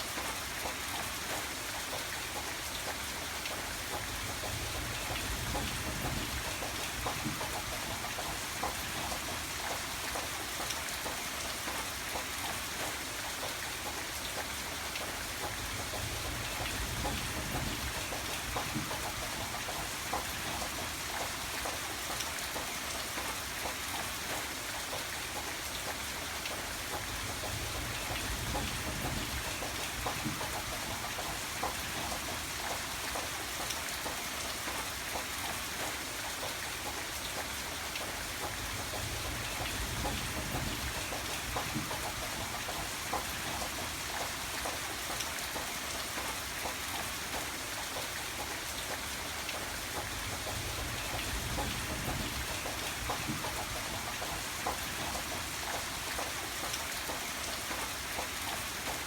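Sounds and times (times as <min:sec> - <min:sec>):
rain hissing on a surface: 0:00.0 - 0:59.0
raindrops ticking: 0:00.1 - 0:59.0.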